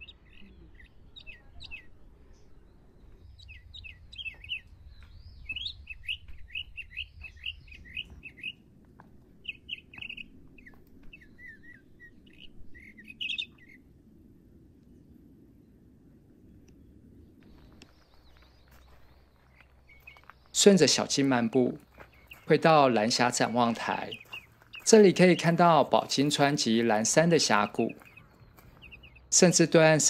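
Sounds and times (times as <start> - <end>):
small birds chirping: 0.0 - 8.7, 9.4 - 13.9, 16.7 - 30.0.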